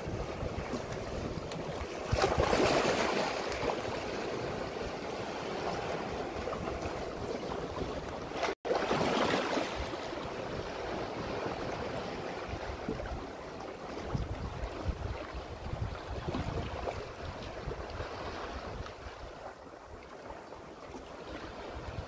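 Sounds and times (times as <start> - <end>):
sea waves swirling between rocks: 0.0 - 22.0.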